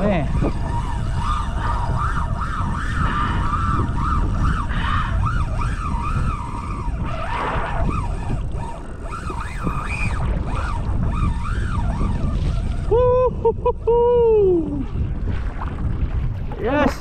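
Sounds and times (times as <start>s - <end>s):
fishing reel drag whining: 0.0s - 15.0s
wind on microphone: 0.0s - 17.0s.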